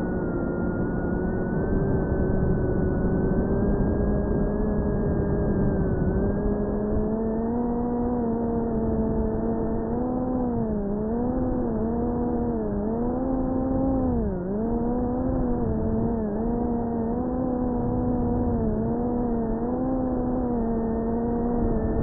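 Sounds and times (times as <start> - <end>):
drone propellers buzzing: 0.0 - 22.0.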